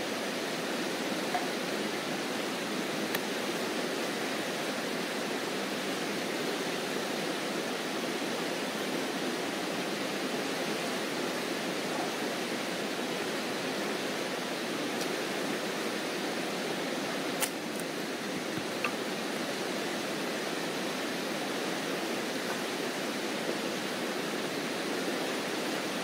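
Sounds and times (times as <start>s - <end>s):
river rushing: 0.0s - 26.0s.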